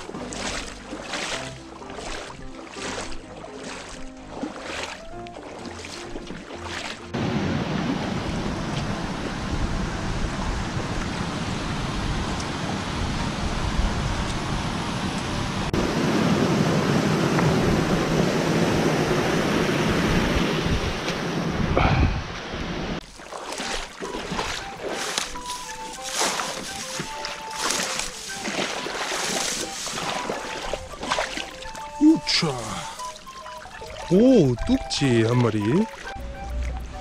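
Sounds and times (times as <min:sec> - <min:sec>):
water rushing over a weir: 0:00.0 - 0:37.0.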